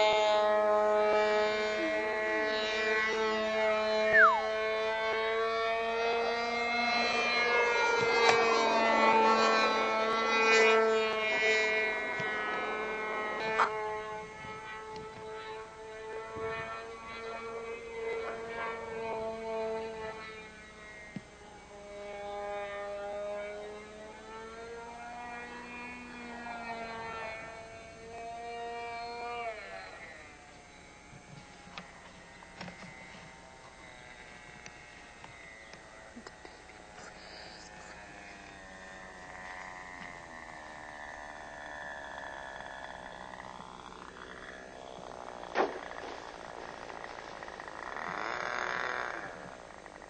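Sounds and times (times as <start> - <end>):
model plane engine buzzing: 0.0 - 50.0.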